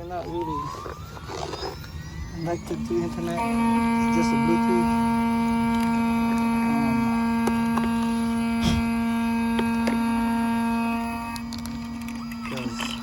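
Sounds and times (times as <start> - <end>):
loud electrical hum: 0.0 - 13.0.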